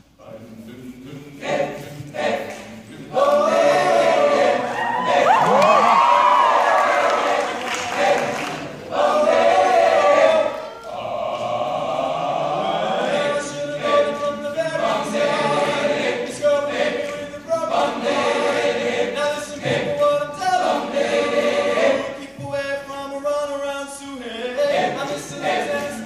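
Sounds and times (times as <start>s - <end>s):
men's choir singing: 0.2s - 26.0s.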